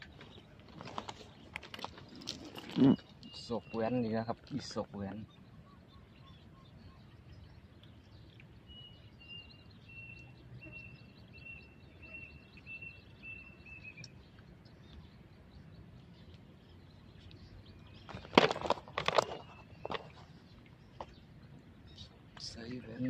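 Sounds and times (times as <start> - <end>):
faint outdoor background noise: 0.0 - 23.0.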